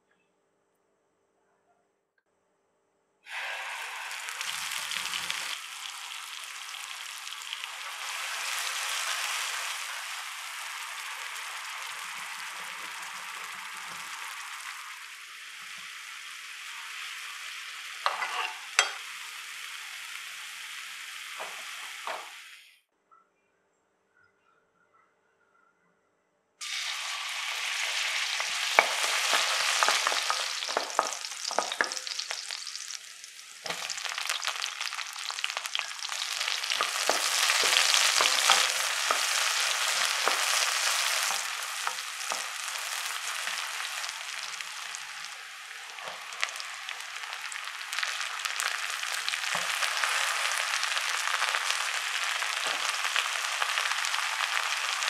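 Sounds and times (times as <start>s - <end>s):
onions sizzling in hot oil: 3.3s - 22.8s, 26.6s - 55.0s.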